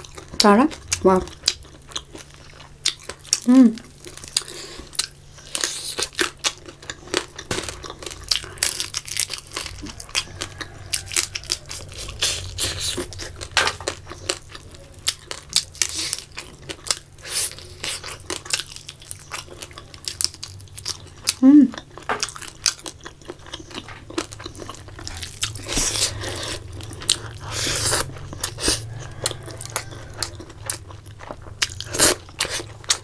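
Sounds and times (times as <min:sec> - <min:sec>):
person chewing fried fish: 0:00.0 - 0:33.0.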